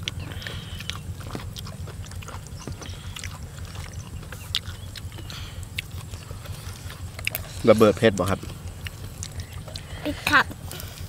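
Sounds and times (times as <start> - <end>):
people chewing food: 0.0 - 11.0
steady low rumble: 0.0 - 11.0.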